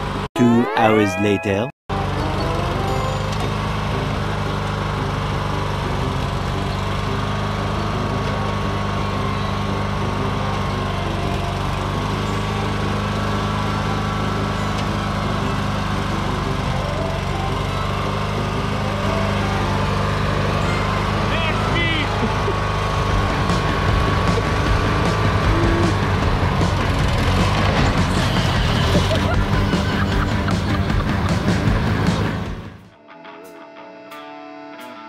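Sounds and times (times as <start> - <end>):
riding lawn mower engine running: 0.0 - 0.3, 1.9 - 32.9.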